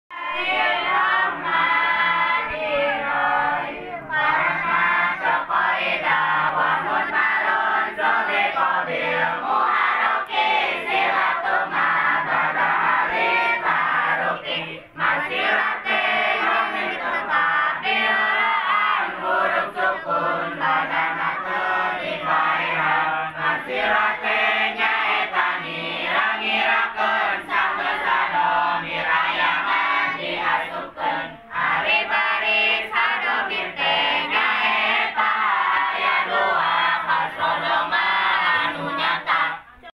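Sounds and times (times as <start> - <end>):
women chanting verses together: 0.1 - 39.9.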